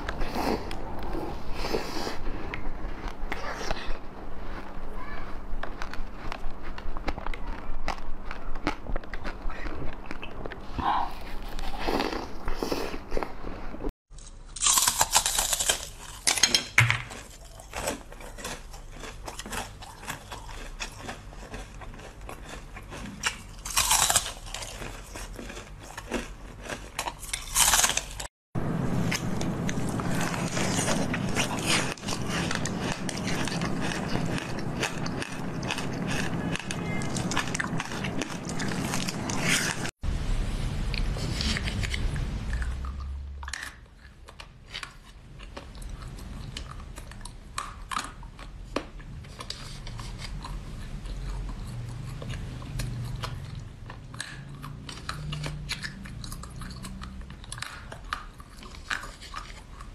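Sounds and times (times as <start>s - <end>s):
crunching and chewing frozen treats: 0.0s - 28.3s, 29.0s - 40.0s, 40.9s - 59.9s.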